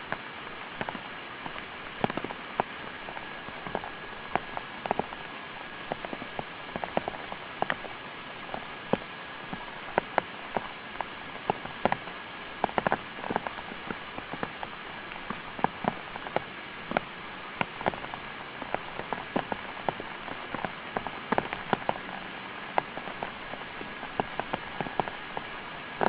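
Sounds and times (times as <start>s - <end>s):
rain drops pattering: 0.0s - 26.0s
steady rain hiss: 0.0s - 26.0s.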